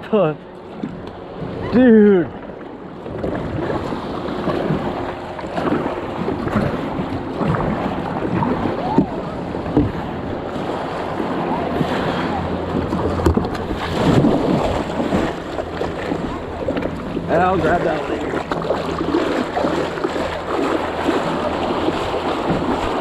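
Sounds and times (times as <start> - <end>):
water sloshing around kayak: 0.0 - 23.0
wind buffeting microphone: 0.4 - 23.0.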